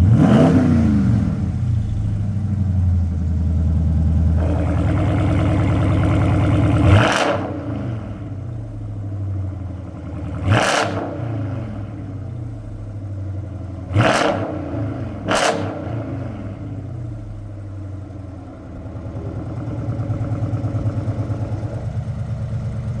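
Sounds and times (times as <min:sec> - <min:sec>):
car engine idling: 0:00.0 - 0:23.0
engine throttle blips: 0:00.0 - 0:23.0.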